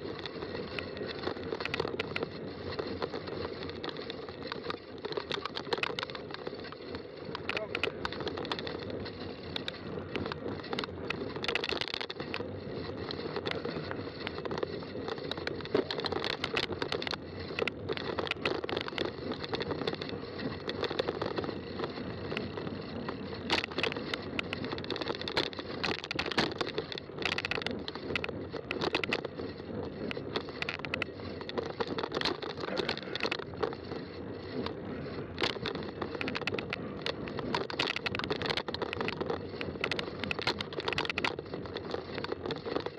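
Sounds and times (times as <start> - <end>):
bike clicks and rattles: 0.0 - 42.9
bike tires rolling on trail: 0.0 - 42.9.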